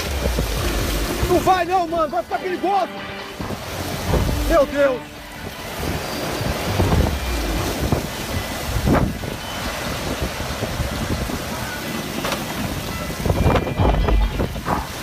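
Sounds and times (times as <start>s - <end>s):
wind buffeting microphone: 0.0s - 2.4s, 3.3s - 15.0s
strong wind gusting: 0.0s - 15.0s.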